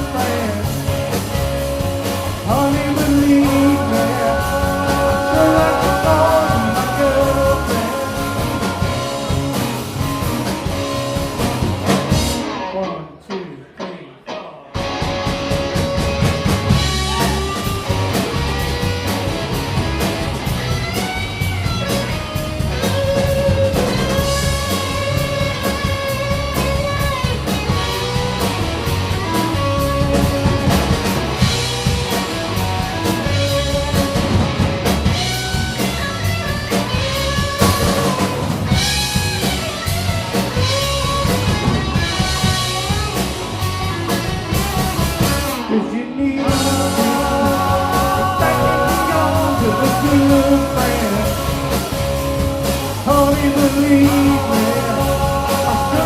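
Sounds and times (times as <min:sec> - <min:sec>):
drum kit and bass beat: 0:00.0 - 0:12.5, 0:14.8 - 0:45.7, 0:46.5 - 0:56.0
lead guitar melody: 0:00.0 - 0:13.0, 0:14.8 - 0:56.0.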